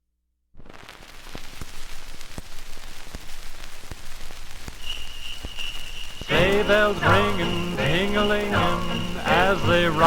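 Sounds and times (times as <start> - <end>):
record surface hiss: 0.6 - 10.0.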